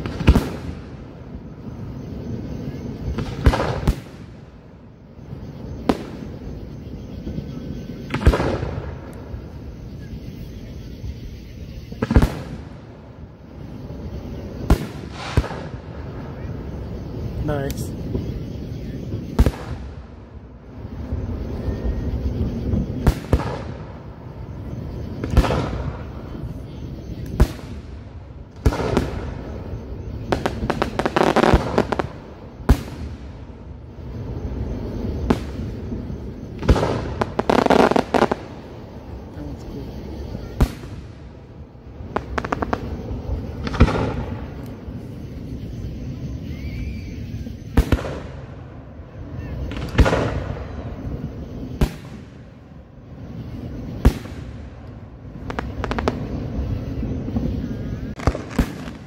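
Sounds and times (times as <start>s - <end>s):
fireworks bangs and crackling: 0.0s - 59.0s
fireworks booming: 0.0s - 59.0s.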